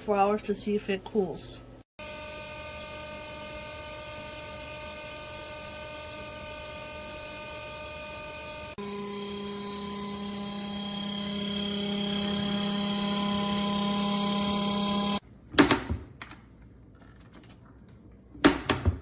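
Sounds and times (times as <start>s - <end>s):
compressor fridge humming: 0.0s - 17.0s.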